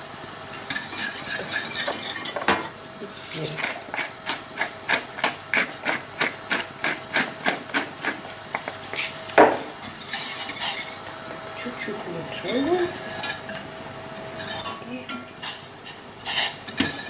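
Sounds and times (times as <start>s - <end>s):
whisk clinking and scraping pan: 0.5s - 11.0s, 12.4s - 13.7s, 14.4s - 17.0s.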